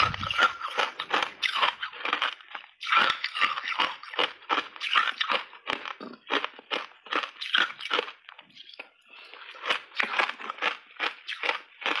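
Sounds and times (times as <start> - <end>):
ice crunching between teeth: 0.0 - 12.0.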